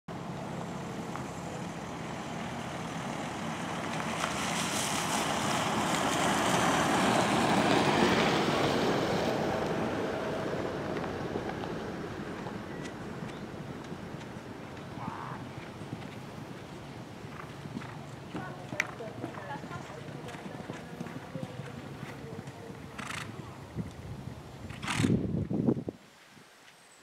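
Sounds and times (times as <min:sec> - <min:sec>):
motor vehicle driving past: 0:00.1 - 0:25.3.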